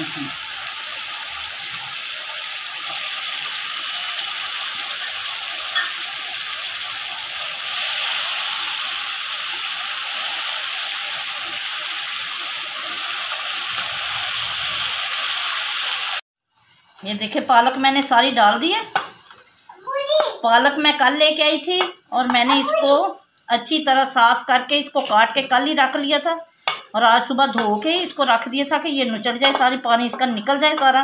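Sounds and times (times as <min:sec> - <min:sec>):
oil sizzling in pot: 0:00.0 - 0:31.0.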